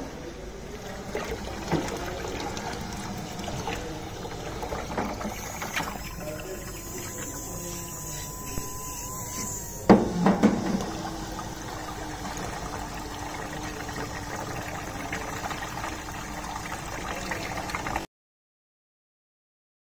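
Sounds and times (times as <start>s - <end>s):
faint pump motor hum: 0.0s - 18.0s.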